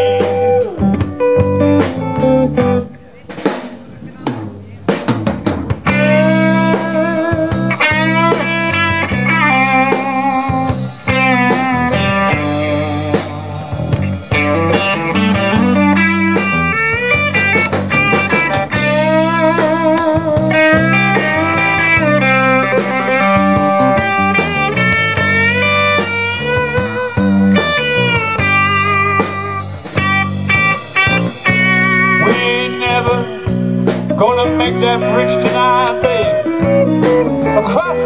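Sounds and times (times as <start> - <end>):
electric guitar solo: 0.0 - 4.9, 5.8 - 38.0
bass guitar: 0.0 - 38.0
drums: 0.0 - 38.0.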